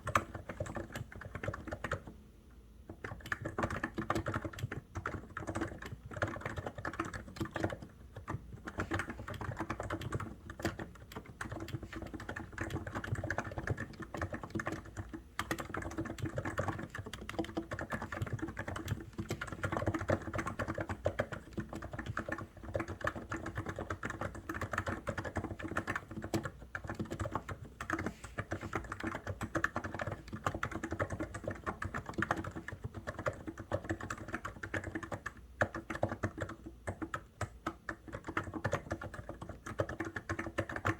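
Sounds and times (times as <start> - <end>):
fast typing on mechanical keyboard: 0.0 - 2.1, 2.9 - 40.9.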